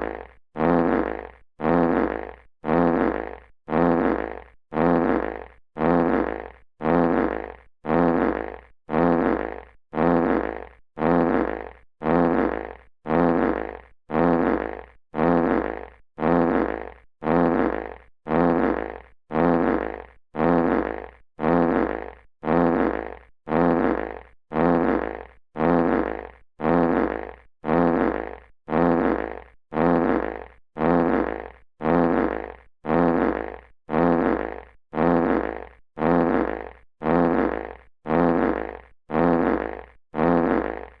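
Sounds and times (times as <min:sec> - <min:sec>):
fart sound effect: 0:00.0 - 0:41.0.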